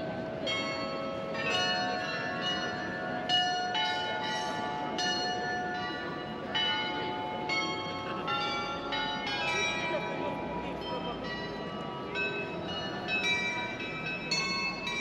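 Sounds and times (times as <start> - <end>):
glockenspiel bells playing slow tune: 0.0 - 15.0
low street noise: 0.0 - 15.0.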